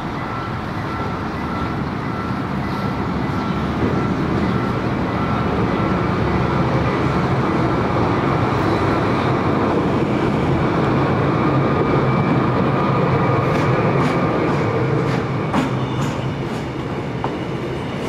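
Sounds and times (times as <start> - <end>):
train rolling past: 0.0 - 18.0.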